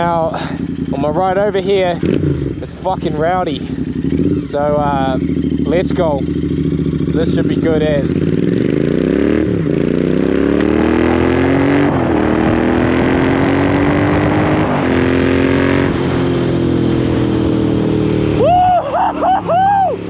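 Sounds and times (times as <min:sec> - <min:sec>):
motorcycle engine accelerating hard: 0:00.0 - 0:20.0.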